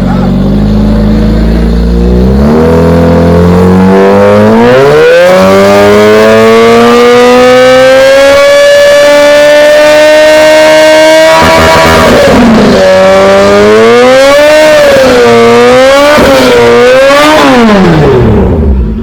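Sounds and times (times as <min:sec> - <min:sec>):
motorcycle engine revving loudly: 0:00.0 - 0:19.0.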